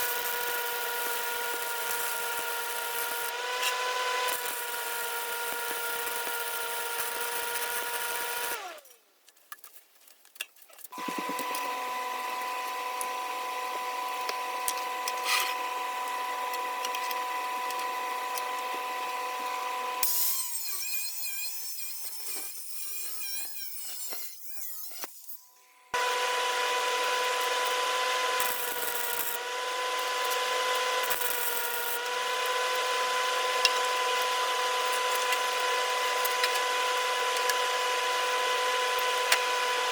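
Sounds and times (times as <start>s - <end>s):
power tool whining and grinding: 0.0s - 9.0s, 10.9s - 39.9s.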